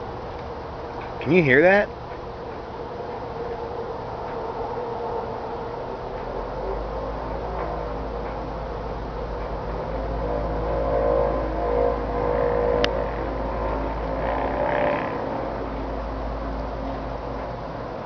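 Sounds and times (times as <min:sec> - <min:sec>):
droning hum with layered tones: 0:00.0 - 0:18.0
higher rising tone: 0:00.0 - 0:18.0.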